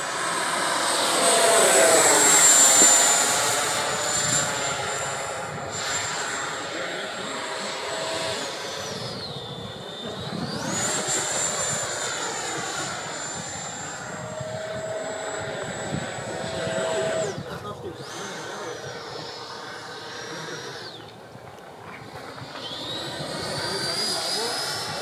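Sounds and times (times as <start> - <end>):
model jet fan whining: 0.0 - 25.0.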